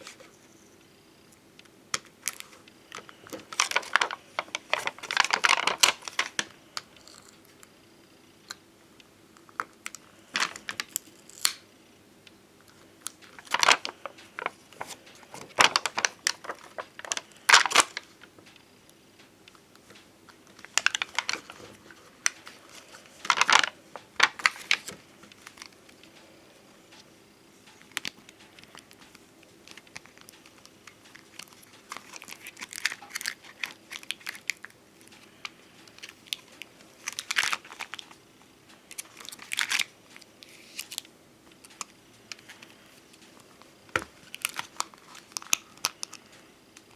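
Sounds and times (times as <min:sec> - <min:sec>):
stickers crinkling and peeling: 0:02.0 - 0:07.7, 0:09.4 - 0:11.6, 0:12.6 - 0:18.6, 0:19.8 - 0:46.9.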